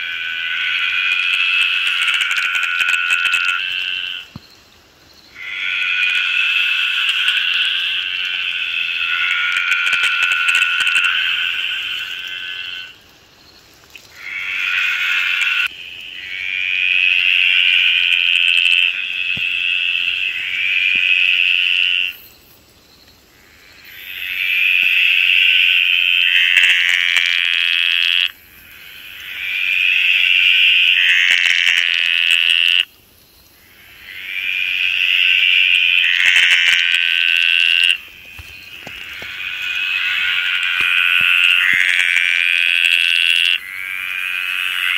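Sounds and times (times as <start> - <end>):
tree frog calling: 0.0 - 4.5, 5.3 - 13.0, 14.0 - 22.4, 23.3 - 32.9, 33.6 - 44.9.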